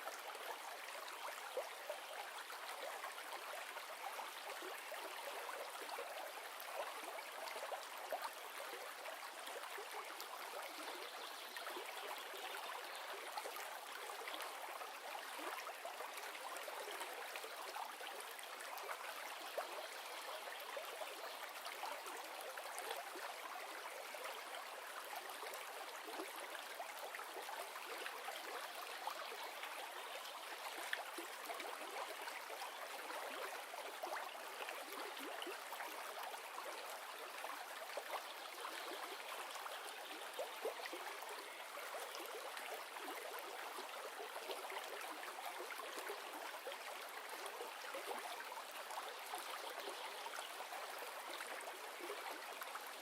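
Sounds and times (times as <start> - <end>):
flowing river water: 0.0 - 53.0.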